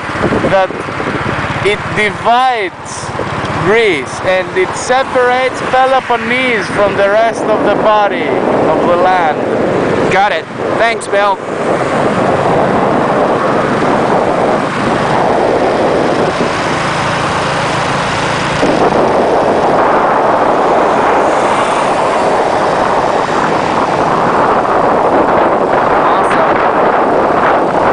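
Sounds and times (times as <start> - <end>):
vehicle engine and road noise: 0.0 - 27.9
wind on microphone: 0.0 - 27.9.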